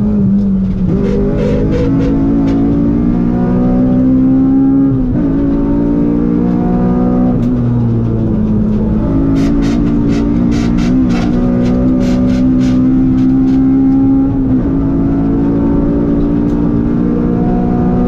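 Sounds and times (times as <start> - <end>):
car engine pulling at high revs: 0.0 - 18.0.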